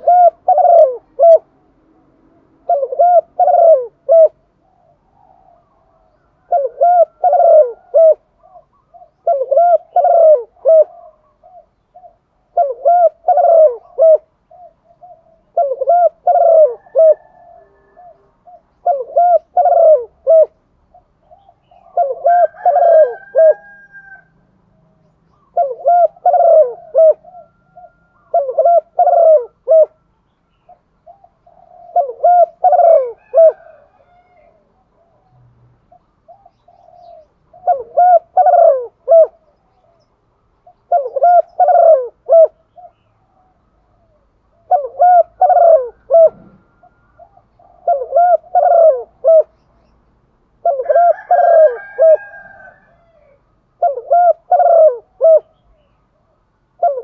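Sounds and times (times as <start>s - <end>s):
dove cooing: 0.0s - 1.5s, 2.5s - 24.3s, 25.3s - 35.3s, 35.9s - 49.9s, 50.6s - 57.0s.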